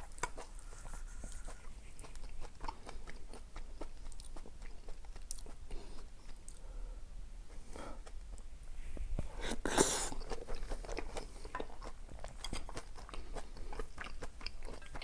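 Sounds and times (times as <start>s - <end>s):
person chewing food: 0.0s - 6.8s, 9.3s - 15.0s.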